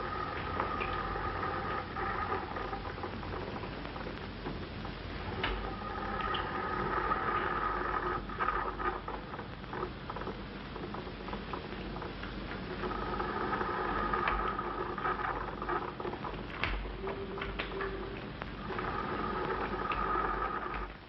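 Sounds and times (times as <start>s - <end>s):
crackles and pops: 0.0s - 21.0s
film soundtrack hiss: 0.0s - 21.0s.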